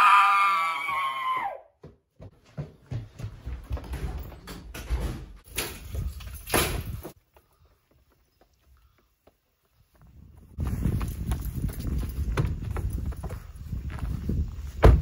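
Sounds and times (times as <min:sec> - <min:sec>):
hurried footsteps: 0:01.4 - 0:15.0.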